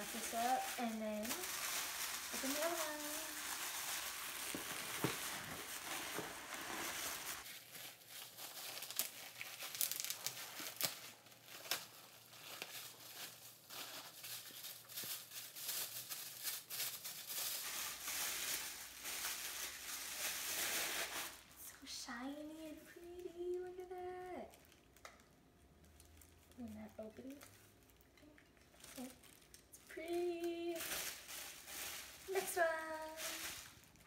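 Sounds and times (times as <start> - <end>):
paper and plastic crinkling: 0.0 - 21.6, 23.0 - 34.0.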